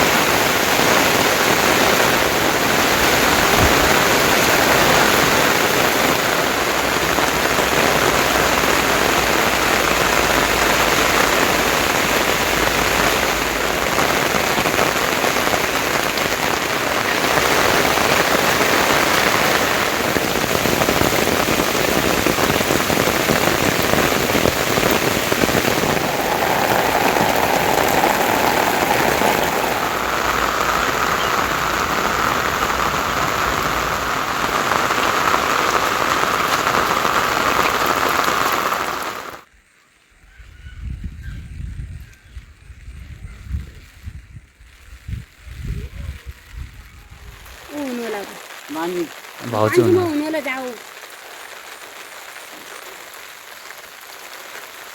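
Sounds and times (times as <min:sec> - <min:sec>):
rain pattering on surfaces: 0:00.0 - 0:39.5, 0:42.8 - 0:54.9.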